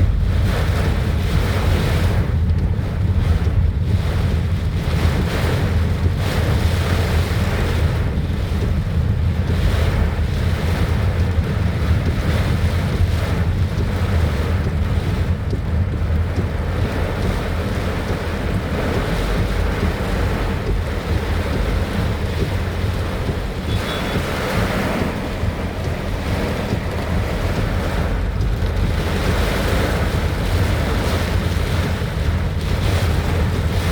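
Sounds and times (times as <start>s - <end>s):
wind buffeting microphone: 0.0s - 33.9s
heavy rain hiss: 6.3s - 33.9s.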